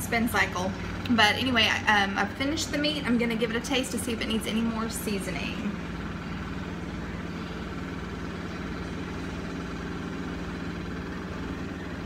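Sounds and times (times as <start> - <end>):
washing machine spin cycle hum: 0.0 - 12.0.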